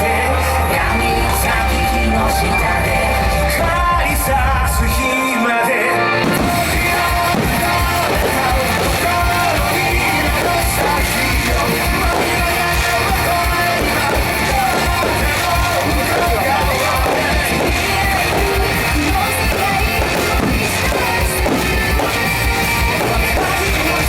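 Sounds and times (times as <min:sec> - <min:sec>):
rock song with guitar and beat: 0:00.0 - 0:24.0.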